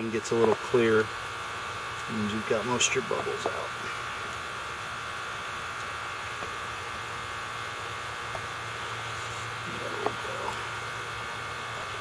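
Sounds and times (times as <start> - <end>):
buzzing hum: 0.0 - 12.0.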